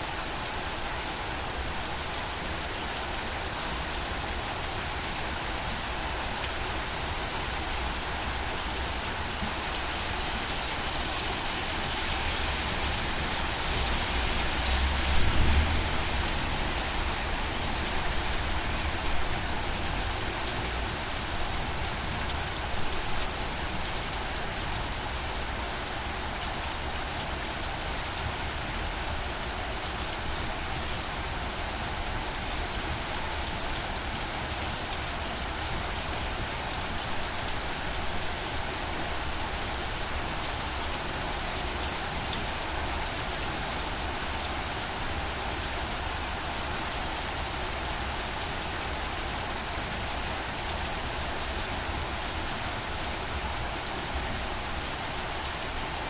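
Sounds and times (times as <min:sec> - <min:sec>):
rain pattering: 0:00.1 - 0:56.0.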